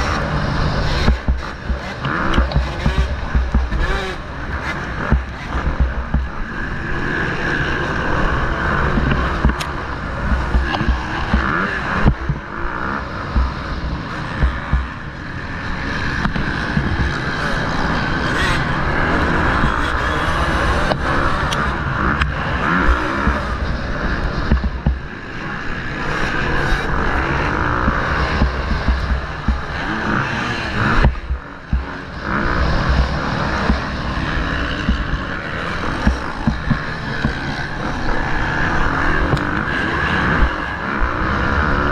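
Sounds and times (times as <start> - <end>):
motocross bike engine: 0.0 - 41.9
wind buffeting microphone: 0.0 - 41.9.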